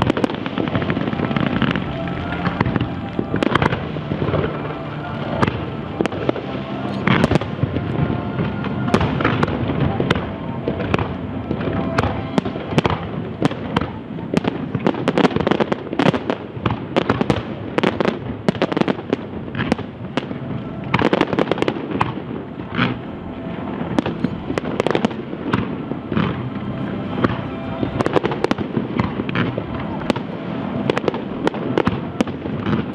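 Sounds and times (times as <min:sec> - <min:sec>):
fireworks bangs and cracks: 0:00.0 - 0:32.9.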